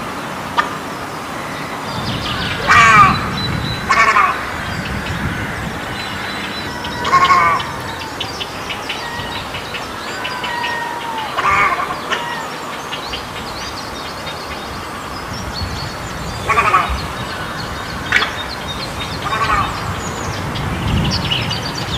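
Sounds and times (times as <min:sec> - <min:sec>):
egrets croaking calls: 0:00.0 - 0:21.9.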